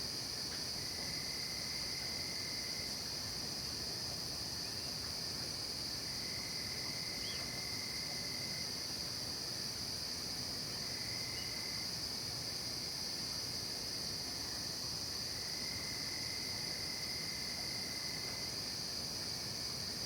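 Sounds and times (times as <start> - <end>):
crickets and insects droning: 0.0 - 20.0
lower insect trill: 0.2 - 20.0.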